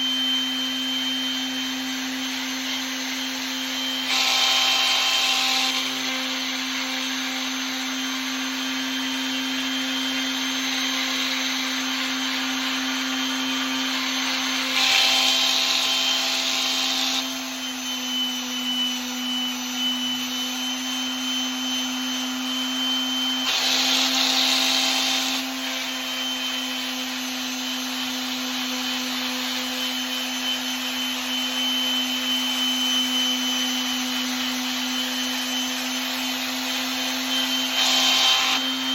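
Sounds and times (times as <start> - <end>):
electric sander on metal: 0.0 - 38.9.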